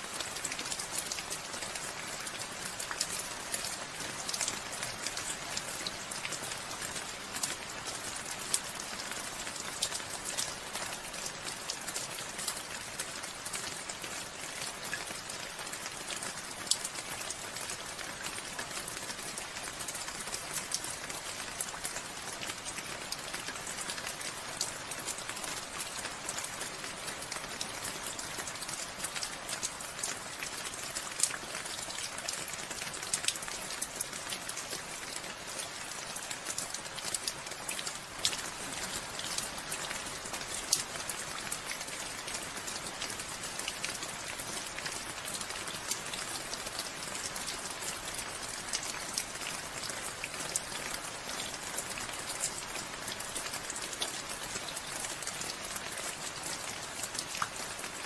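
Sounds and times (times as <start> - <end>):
raindrops ticking on a surface: 0.0 - 58.0
steady rainfall: 0.0 - 58.0.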